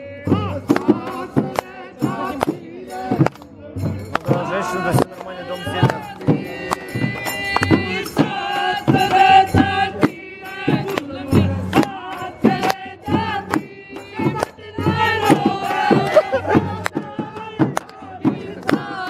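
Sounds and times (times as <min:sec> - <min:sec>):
men singing in chorus: 0:00.0 - 0:19.0
sharp percussive strikes: 0:00.1 - 0:19.0.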